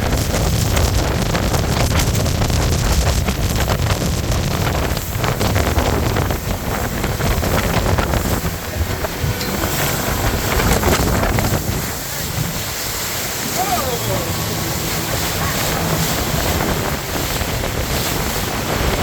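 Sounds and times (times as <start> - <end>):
boat motor: 0.0 - 19.0
water rushing: 0.0 - 19.0
wind buffeting microphone: 0.0 - 19.0.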